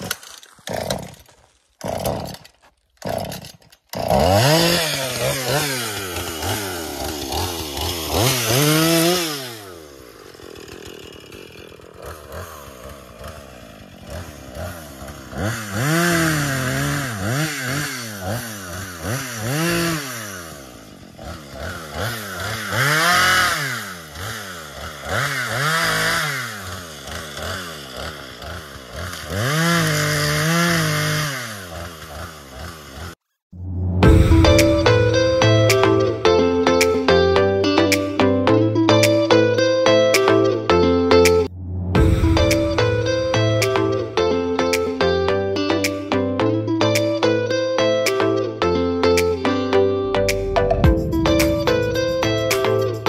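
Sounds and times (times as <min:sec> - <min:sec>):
small gasoline engine revving: 0:00.0 - 0:53.0.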